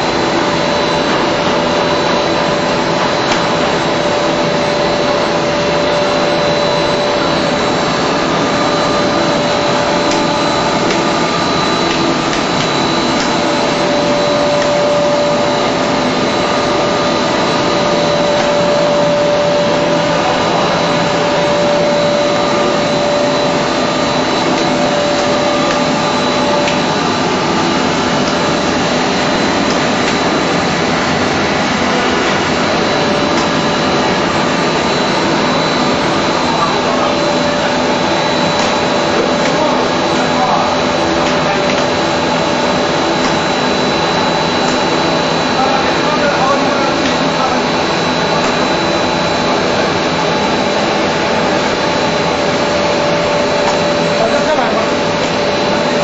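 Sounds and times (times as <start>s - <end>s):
machine whining tones: 0.0s - 56.0s
machine whirring: 0.0s - 56.0s.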